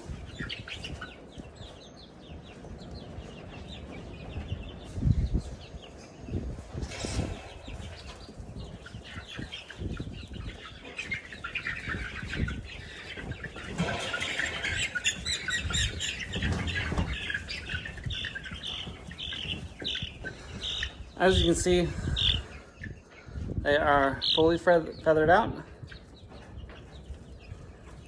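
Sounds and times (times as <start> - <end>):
wings flapping and scuffling: 0.0 - 22.4, 25.8 - 28.0
chickens chirping: 0.0 - 28.0.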